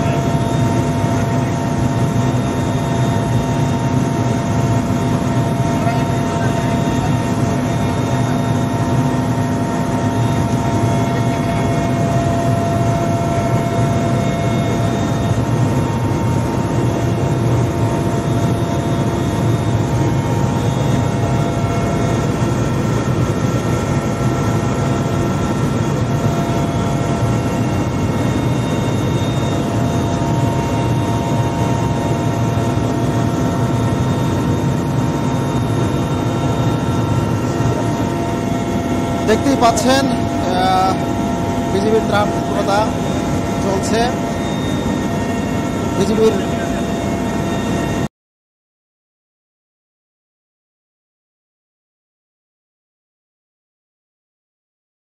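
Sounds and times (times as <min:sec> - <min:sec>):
helicopter engine rumble: 0:00.0 - 0:48.1
helicopter whining tones: 0:00.0 - 0:48.1.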